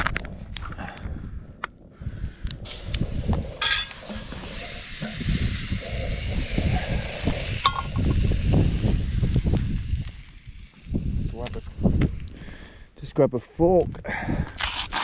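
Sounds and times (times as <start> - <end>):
wind buffeting microphone: 0.0 - 13.0, 13.6 - 14.6.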